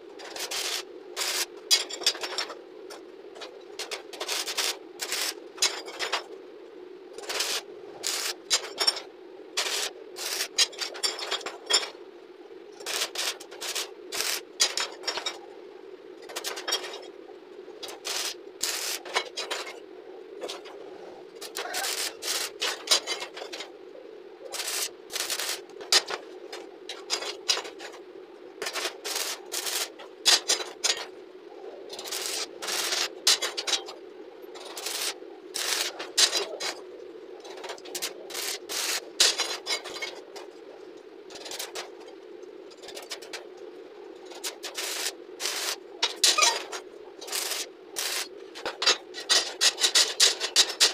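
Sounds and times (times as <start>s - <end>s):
steady background hum: 0.0s - 50.9s.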